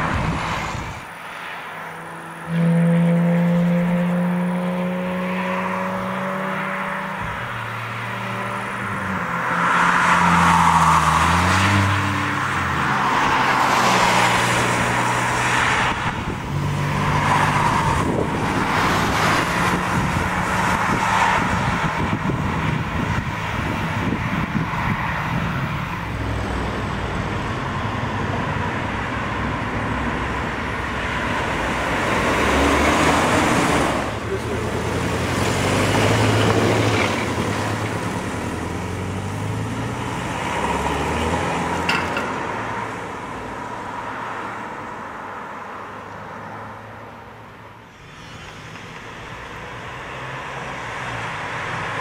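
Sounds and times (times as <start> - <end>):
cars driving past: 0.0 - 52.0.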